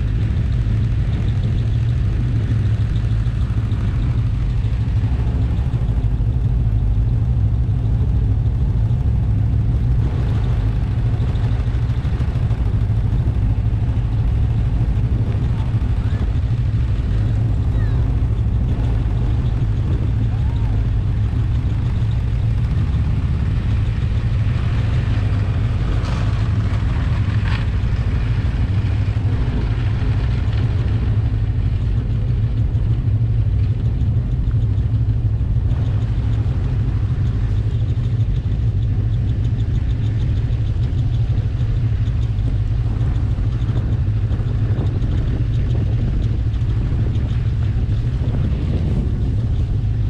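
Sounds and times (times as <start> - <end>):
snowmobile engine droning: 0.0 - 50.0.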